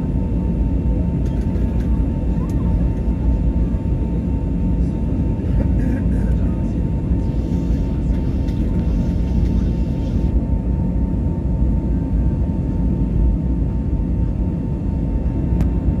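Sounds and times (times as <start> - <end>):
airliner engines rumbling: 0.0 - 16.0
constant hum: 0.0 - 16.0.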